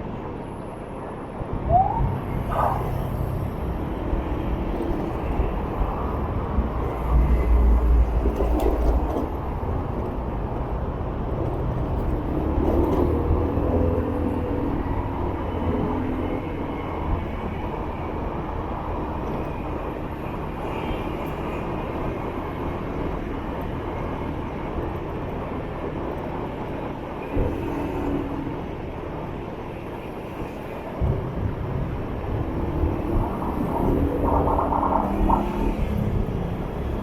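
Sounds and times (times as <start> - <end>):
wind and road noise: 0.0 - 37.0.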